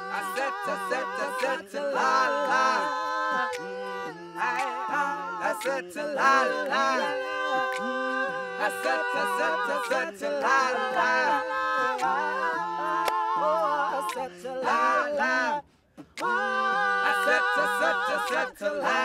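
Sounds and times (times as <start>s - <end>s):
male a cappella group singing: 0.0s - 19.0s.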